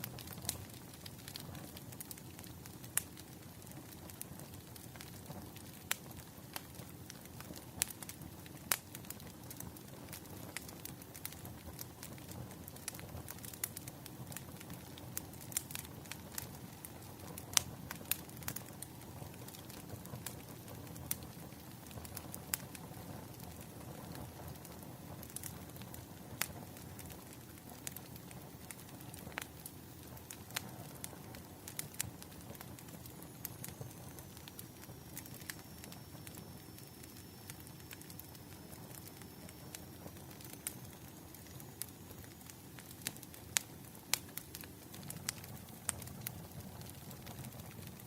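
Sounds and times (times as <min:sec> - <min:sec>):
low fire rumble: 0:00.0 - 0:48.0
wood fire pops and snaps: 0:00.0 - 0:48.0.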